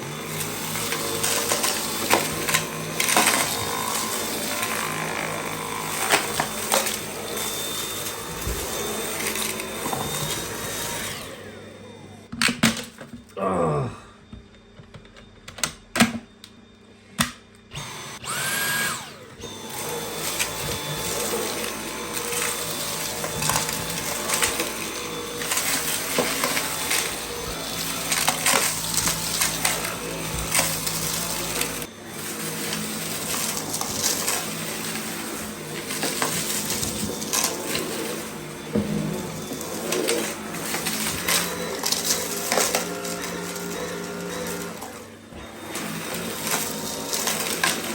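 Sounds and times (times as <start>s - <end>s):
vacuum cleaner whine: 0.0s - 47.9s.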